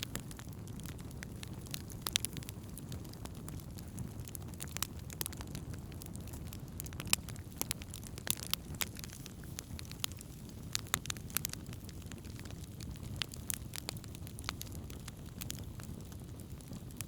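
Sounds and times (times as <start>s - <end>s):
burning wood crackling and popping: 0.0s - 17.0s
campfire flame rushing: 0.0s - 17.0s.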